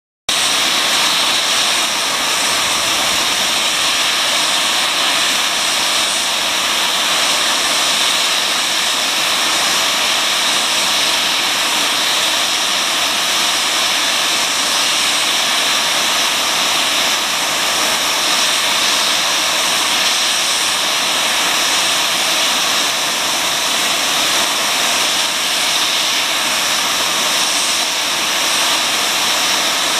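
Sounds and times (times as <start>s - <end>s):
steam hissing from safety valves: 0.3s - 29.9s.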